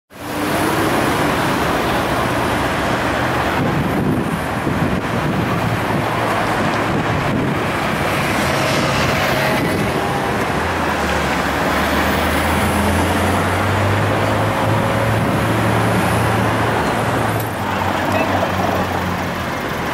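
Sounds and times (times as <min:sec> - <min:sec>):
road and traffic noise: 0:00.1 - 0:19.9.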